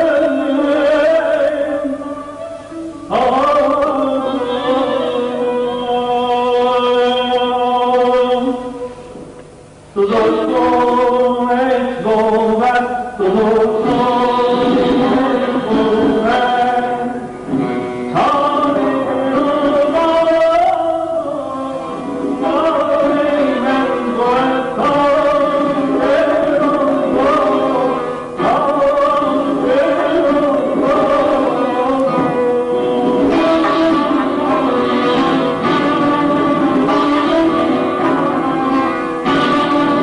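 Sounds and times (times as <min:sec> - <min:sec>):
man singing classical vocal: 0:00.0 - 0:09.0, 0:09.9 - 0:17.4, 0:18.1 - 0:40.0
instrumental accompaniment: 0:00.0 - 0:11.4, 0:12.1 - 0:40.0.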